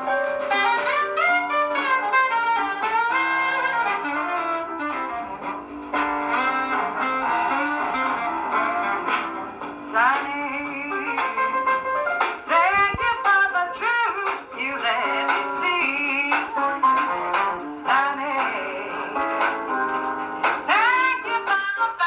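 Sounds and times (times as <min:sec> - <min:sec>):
instrumental music over loudspeakers: 0:00.0 - 0:22.0.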